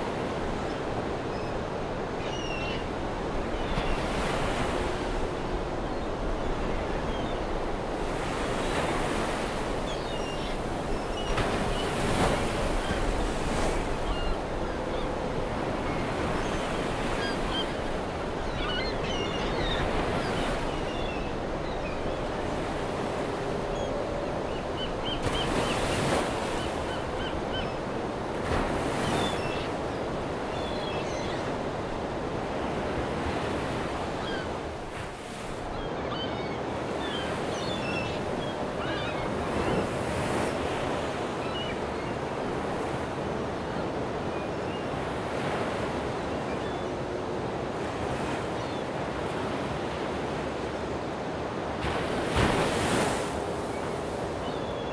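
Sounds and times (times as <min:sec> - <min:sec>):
ocean waves breaking: 0:00.0 - 0:46.8, 0:47.4 - 0:54.6.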